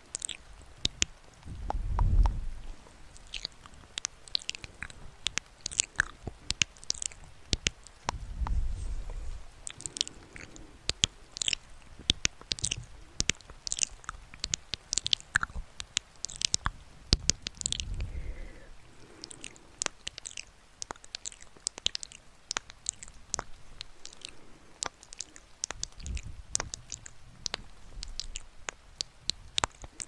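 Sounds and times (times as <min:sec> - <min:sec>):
wet mouth clicks and smacks: 0:00.1 - 0:30.0.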